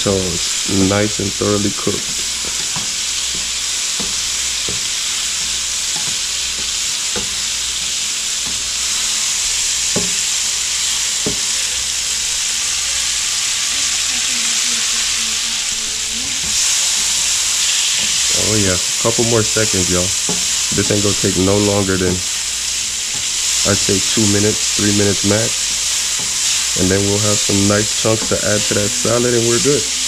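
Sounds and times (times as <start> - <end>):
fish sizzling in a pan: 0.0 - 30.0.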